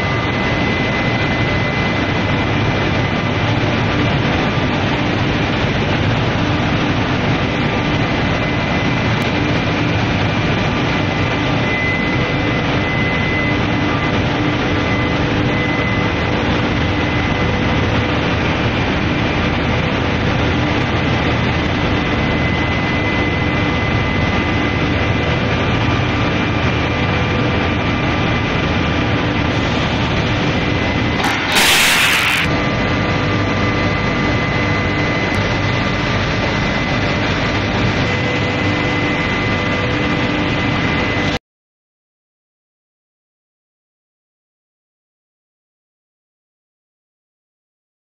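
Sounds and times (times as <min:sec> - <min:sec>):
faint steady whines: 0:00.0 - 0:41.4
industrial furnace noise: 0:00.0 - 0:41.4.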